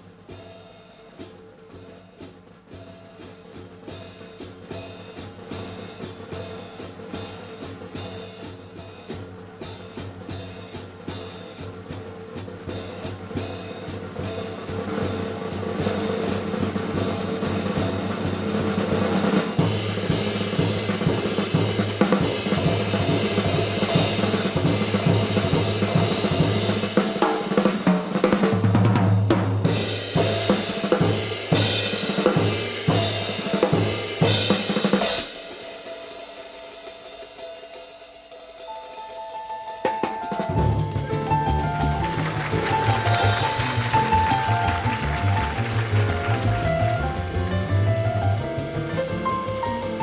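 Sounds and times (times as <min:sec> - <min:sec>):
drum kit playing busily: 0:00.0 - 0:50.0
live jazz: 0:00.1 - 0:36.2, 0:38.6 - 0:50.0.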